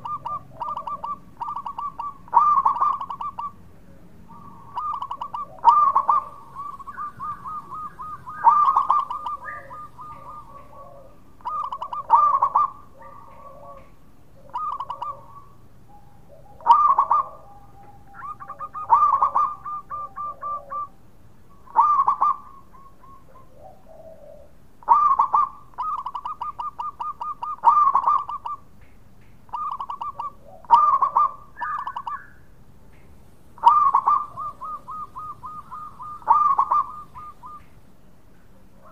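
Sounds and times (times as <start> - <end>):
dove cooing: 0.0 - 21.0, 21.6 - 28.6, 29.5 - 32.3, 33.6 - 37.8, 38.6 - 38.9.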